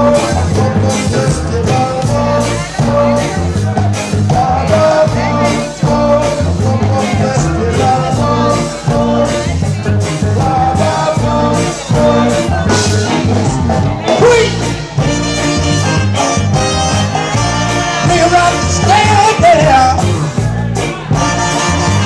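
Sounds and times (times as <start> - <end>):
person singing: 0.0 - 22.0
repeating bass line: 0.0 - 22.0
ska band playing: 0.0 - 22.0.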